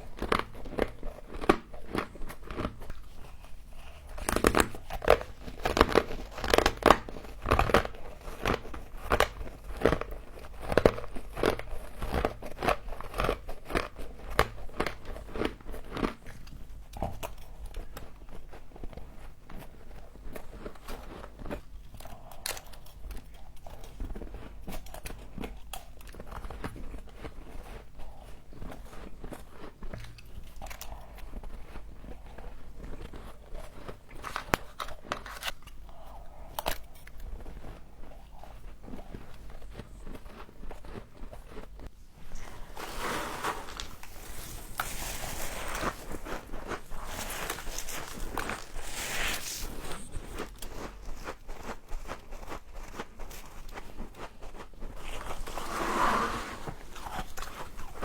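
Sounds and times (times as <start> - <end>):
chewing and crunching frost: 0.0 - 55.7, 56.6 - 58.0.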